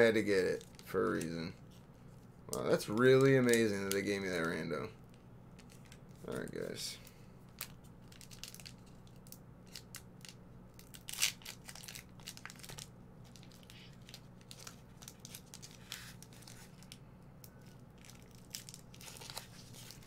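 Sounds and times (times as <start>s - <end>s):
foil wrapper crinkling: 0.0s - 6.7s, 7.5s - 17.0s, 17.6s - 20.0s
faint steady hum: 0.0s - 20.0s.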